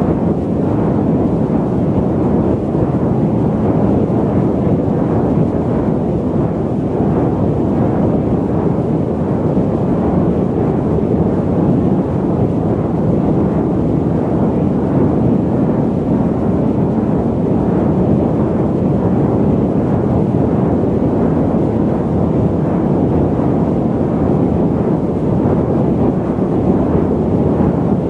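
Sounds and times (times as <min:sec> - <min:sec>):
airliner cabin noise: 0:00.0 - 0:28.0.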